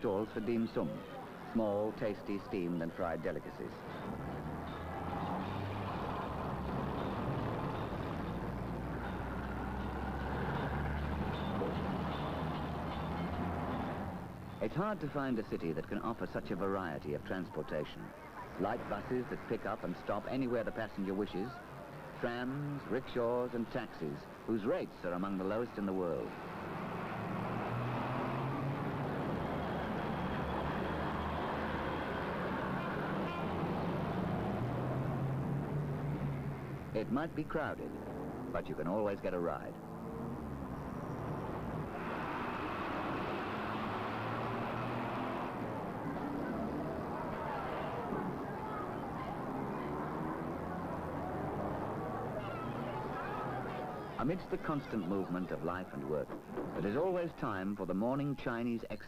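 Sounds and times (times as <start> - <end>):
dense traffic rumble: 0.0 - 59.0.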